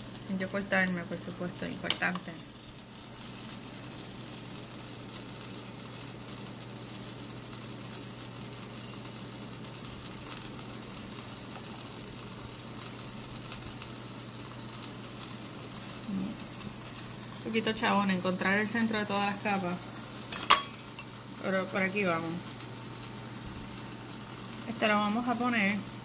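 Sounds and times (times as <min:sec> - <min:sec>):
flatbread sizzling in a pan: 0:00.0 - 0:26.0.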